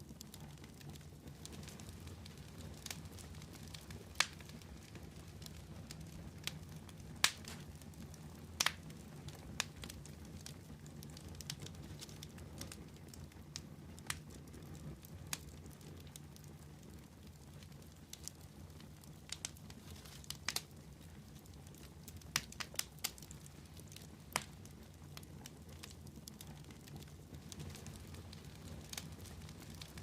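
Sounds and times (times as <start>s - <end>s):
low fire rumble: 0.0s - 30.0s
wood fire popping and snapping: 0.0s - 30.0s.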